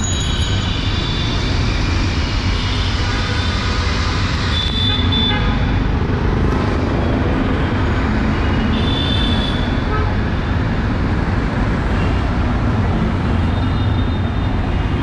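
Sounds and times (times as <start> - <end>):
traffic on wet road: 0.0 - 15.0.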